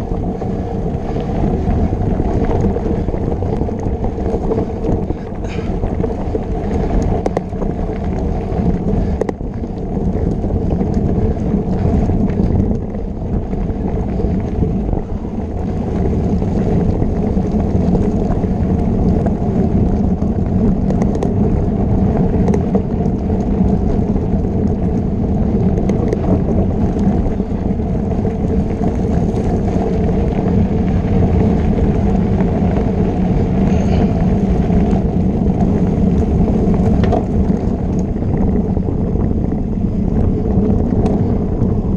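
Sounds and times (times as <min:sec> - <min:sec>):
bike tyres rumbling: 0:00.0 - 0:41.9
wind on microphone: 0:00.0 - 0:41.9.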